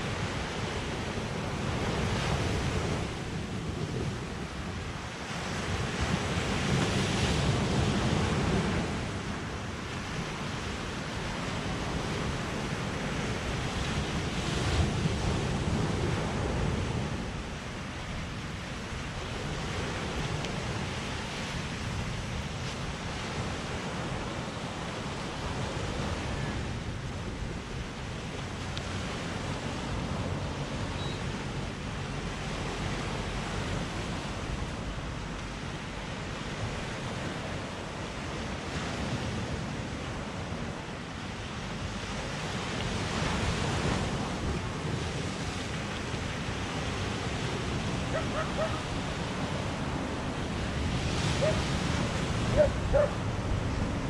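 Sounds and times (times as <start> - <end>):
ocean waves washing on beach: 0.0 - 54.0.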